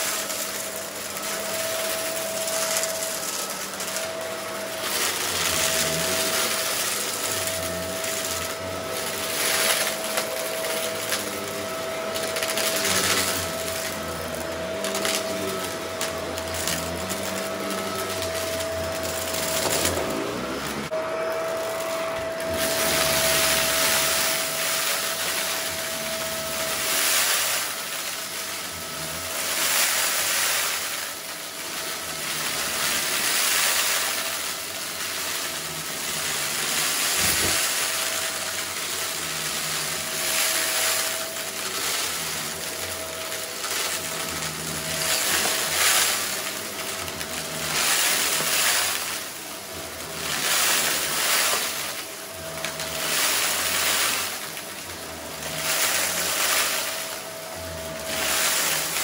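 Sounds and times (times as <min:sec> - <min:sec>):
stick vacuum sucking up rocks: 0:00.0 - 0:59.0.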